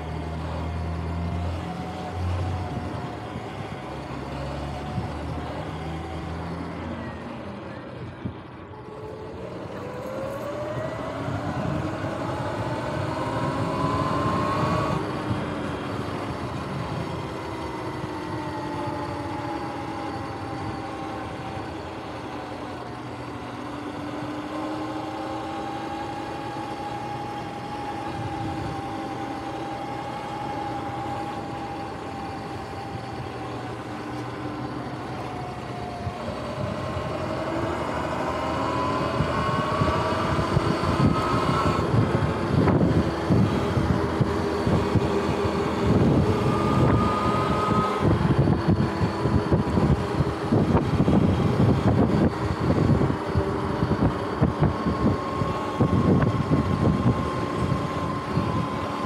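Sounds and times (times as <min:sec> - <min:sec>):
electric motorbike motor whining: 0:00.0 - 0:59.0
wind rumble on microphone: 0:00.2 - 0:06.8, 0:07.9 - 0:59.0.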